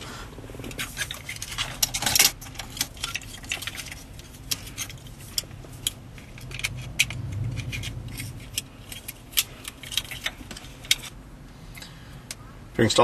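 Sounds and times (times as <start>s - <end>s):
plastic connectors clicking and rattling: 0.7s - 11.2s.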